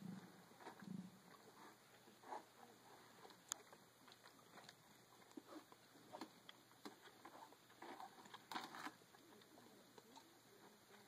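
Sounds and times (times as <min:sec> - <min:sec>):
tiger chewing food: 0:00.0 - 0:11.0.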